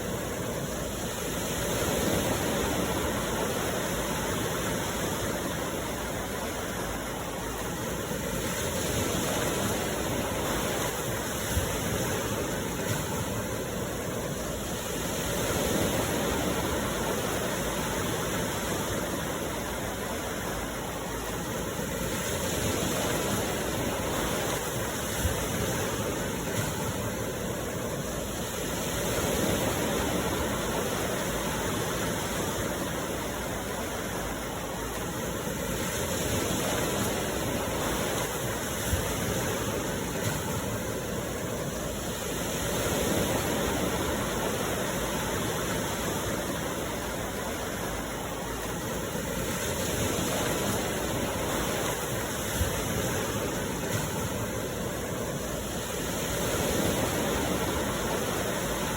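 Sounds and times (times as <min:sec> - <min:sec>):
sea waves washing onto shore: 0:00.0 - 0:58.9.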